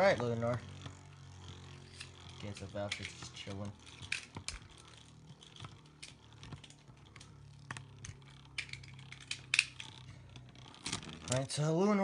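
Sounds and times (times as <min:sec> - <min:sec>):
spinning tops clicking together: 0:00.0 - 0:11.5.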